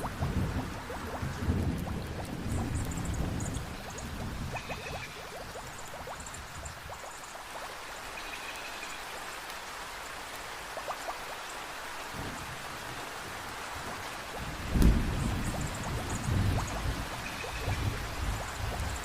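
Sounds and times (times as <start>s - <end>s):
heavy rain: 0.0s - 19.0s
raindrops pattering close by: 0.0s - 19.0s.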